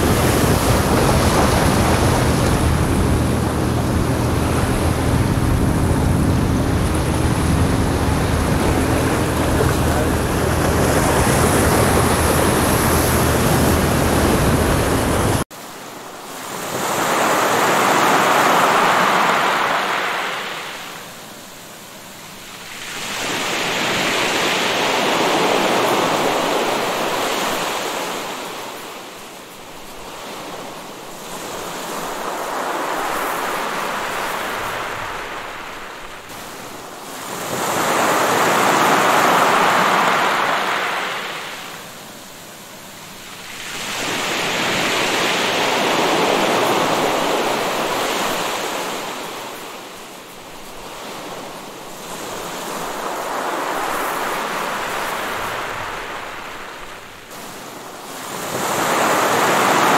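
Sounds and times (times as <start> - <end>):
ocean waves washing: 0.0 - 59.9.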